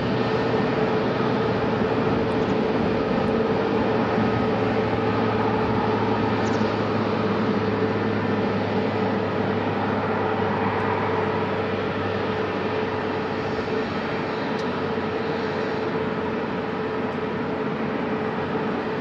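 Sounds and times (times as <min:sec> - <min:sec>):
jet engines idling: 0:00.0 - 0:19.0.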